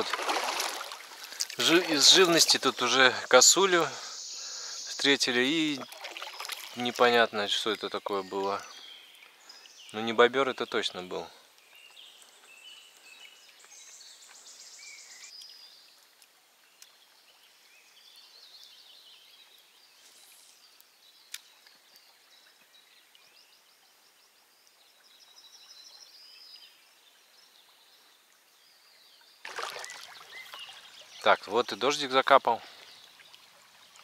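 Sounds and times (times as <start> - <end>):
faint birds chirping: 0.7 - 34.0.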